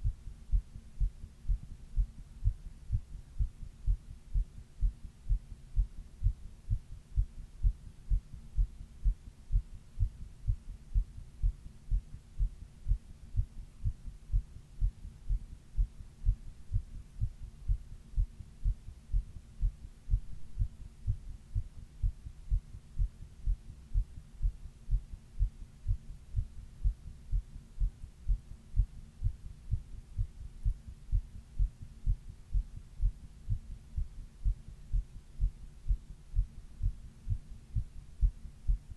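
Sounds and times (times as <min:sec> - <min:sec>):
faint hum: 0:00.0 - 0:38.9
heartbeat: 0:00.0 - 0:38.9.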